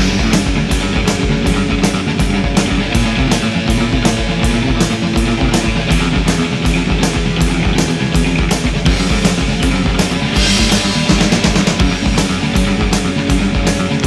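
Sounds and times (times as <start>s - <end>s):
heavy metal music: 0.0s - 14.0s.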